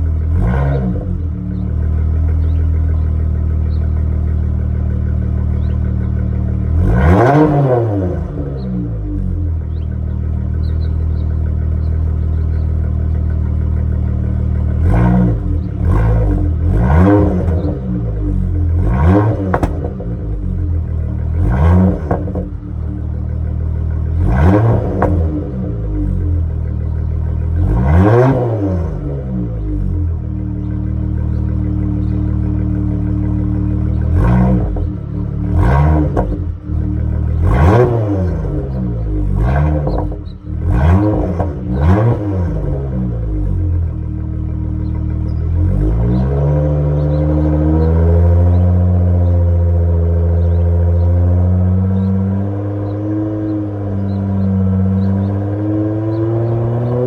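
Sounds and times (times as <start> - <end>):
car exhaust idling and revving: 0.0 - 57.0.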